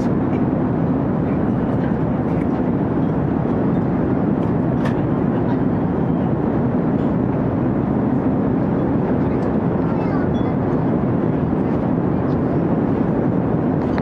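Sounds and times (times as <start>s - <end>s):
airliner cabin noise: 0.0s - 14.0s.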